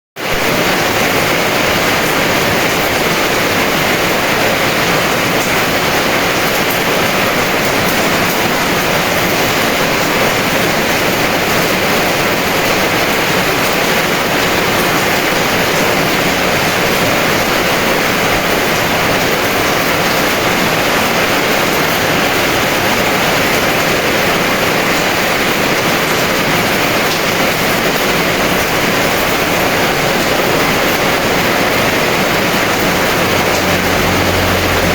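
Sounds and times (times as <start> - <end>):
heavy rain pouring: 0.2 - 34.9.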